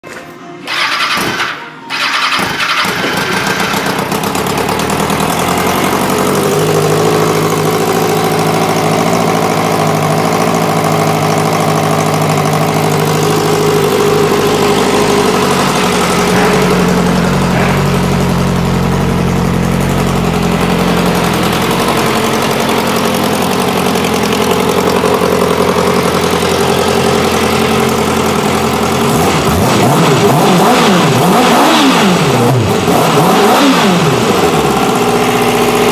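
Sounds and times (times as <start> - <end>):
motorcycle engine revving: 0.6 - 35.9
motorcycle engine idling: 0.7 - 32.9, 33.6 - 35.9.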